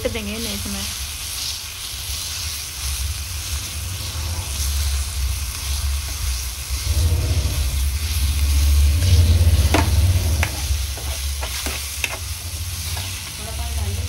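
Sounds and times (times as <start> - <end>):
masala sizzling in oil: 0.0 - 14.0
low rumble: 2.6 - 14.0.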